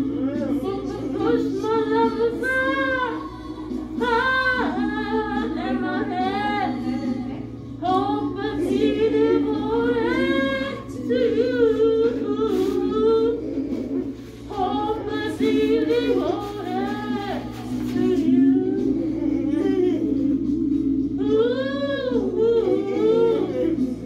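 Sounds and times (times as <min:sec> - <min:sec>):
music: 0:00.0 - 0:24.0
woman singing: 0:00.0 - 0:24.0.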